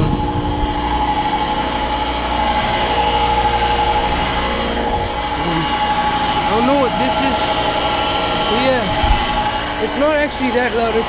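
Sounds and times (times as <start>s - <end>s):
compressor humming: 0.0s - 11.0s.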